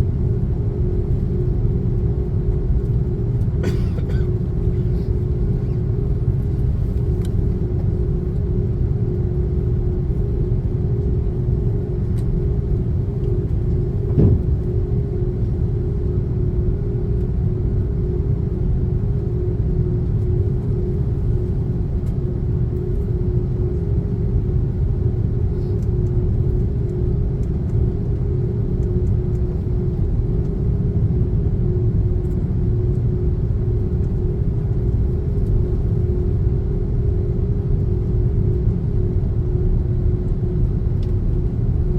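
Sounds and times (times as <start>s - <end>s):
airplane cabin rumble: 0.0s - 41.9s
constant hum: 0.0s - 41.9s.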